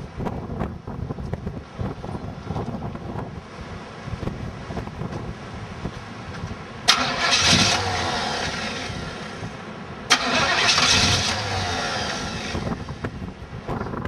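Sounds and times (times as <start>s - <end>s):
car engine starting: 1.9s - 14.0s.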